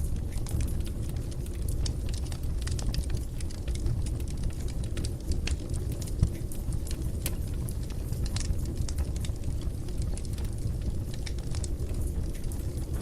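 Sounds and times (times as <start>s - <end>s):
fire crackling and snapping: 0.0s - 13.0s
fire flames rumbling: 0.0s - 13.0s.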